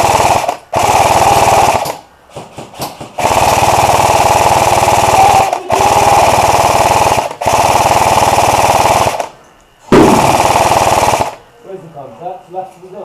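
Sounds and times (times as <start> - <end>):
airsoft gun firing bursts: 0.0 - 11.4.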